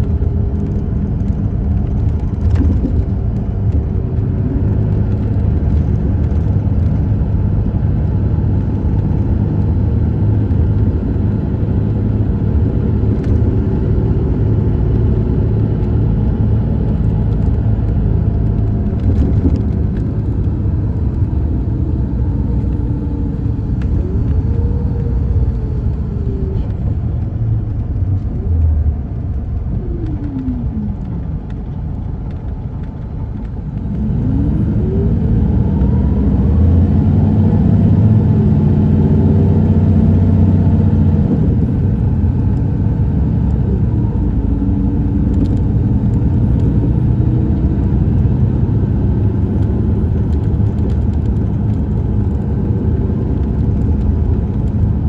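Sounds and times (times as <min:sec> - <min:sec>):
diesel engine droning: 0:00.0 - 0:55.0
road noise: 0:00.0 - 0:55.0.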